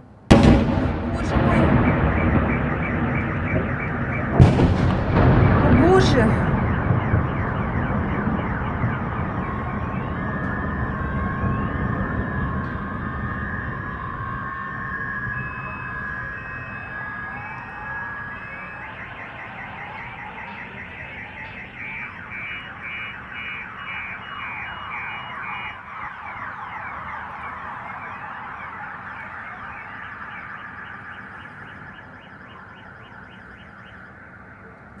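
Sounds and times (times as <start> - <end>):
car alarms sounding: 0.3 - 35.0.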